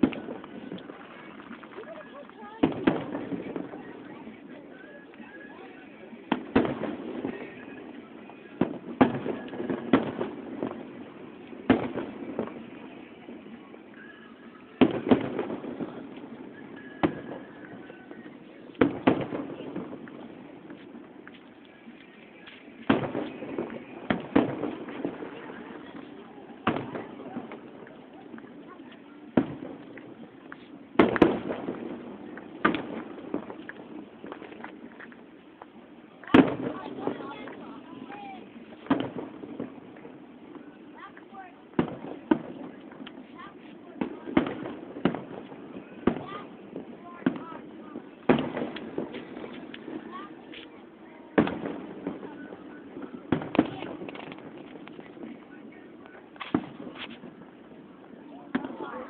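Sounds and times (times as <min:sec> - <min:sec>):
fireworks bangs: 0:00.0 - 0:59.0
fireworks pops and crackle: 0:00.0 - 0:59.0.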